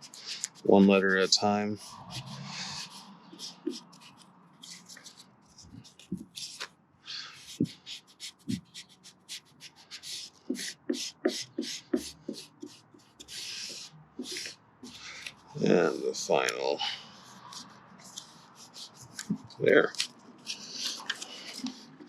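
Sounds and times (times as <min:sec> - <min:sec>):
squeegee scraping decal: 0:00.0 - 0:06.7, 0:07.3 - 0:22.0.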